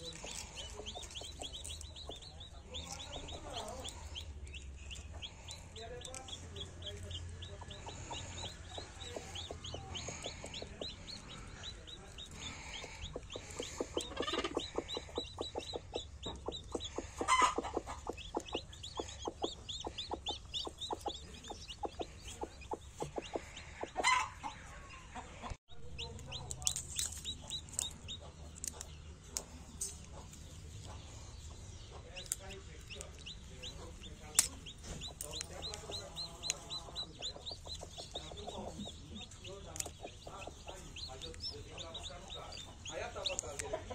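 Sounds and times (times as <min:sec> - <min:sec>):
chicks peeping: 0:00.0 - 0:43.9
hen clucking: 0:00.0 - 0:43.9.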